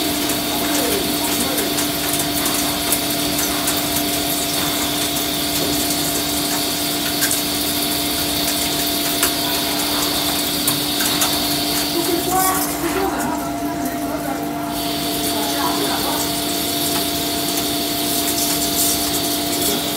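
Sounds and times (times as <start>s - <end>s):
hiss of cutting and coolant: 0.0s - 12.9s, 14.4s - 19.9s
lathe humming and whining: 0.0s - 19.9s.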